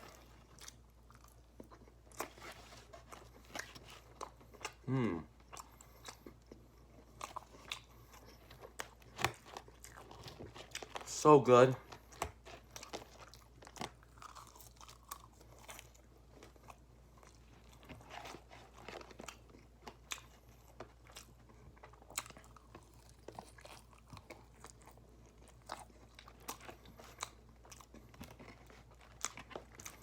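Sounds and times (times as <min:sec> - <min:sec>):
person chewing food: 0:00.0 - 0:11.1, 0:11.8 - 0:30.0.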